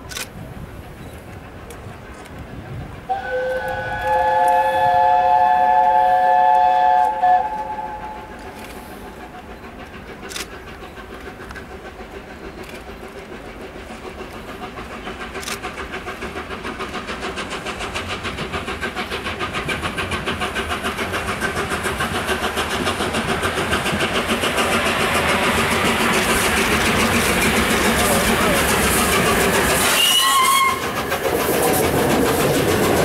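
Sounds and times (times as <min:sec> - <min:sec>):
steam locomotive exhaust beats: 0:00.0 - 0:33.0.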